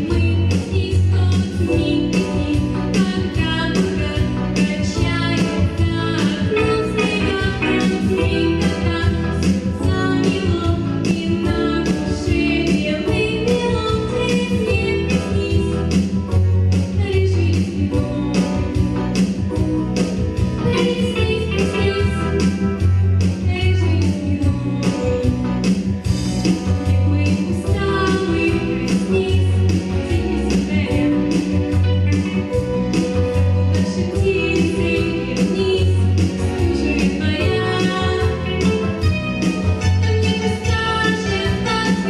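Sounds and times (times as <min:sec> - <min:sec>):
pop band playing: 0:00.0 - 0:42.0.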